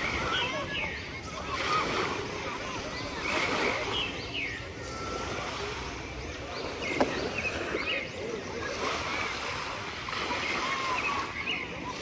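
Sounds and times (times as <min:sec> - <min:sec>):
sea waves: 0:00.0 - 0:12.0
wind: 0:00.0 - 0:12.0.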